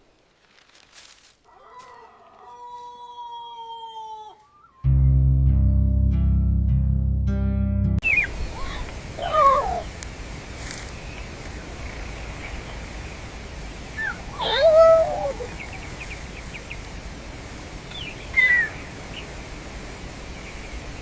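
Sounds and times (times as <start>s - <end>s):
outdoor background noise: 0.0s - 6.8s, 8.0s - 21.0s.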